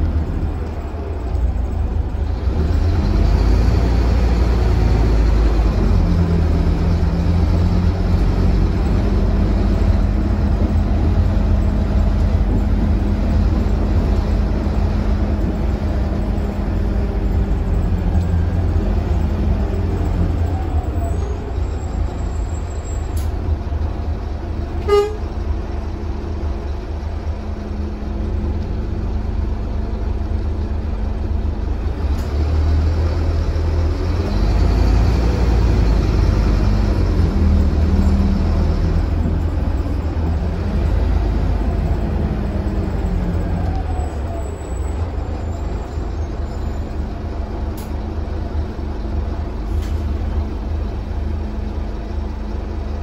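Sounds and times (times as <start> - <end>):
bus engine and road noise drone: 0.0 - 53.0.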